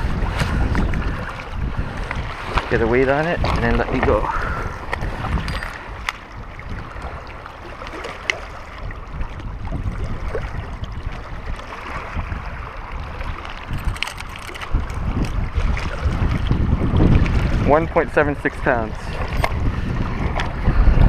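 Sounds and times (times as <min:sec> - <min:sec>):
waves lapping on rocks: 0:00.0 - 0:21.0
wind buffeting microphone: 0:00.0 - 0:21.0.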